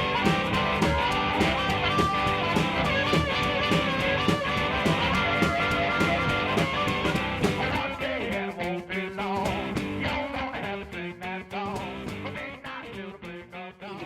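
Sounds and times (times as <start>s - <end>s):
guitar background music with beat: 0.0s - 13.4s.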